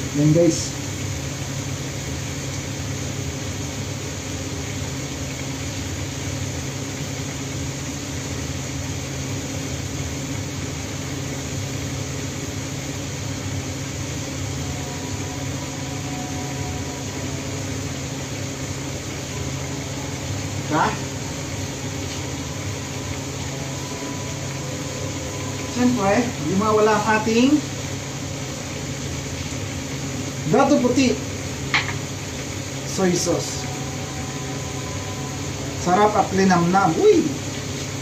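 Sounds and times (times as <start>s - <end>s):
kitchen equipment humming: 0.0s - 38.0s.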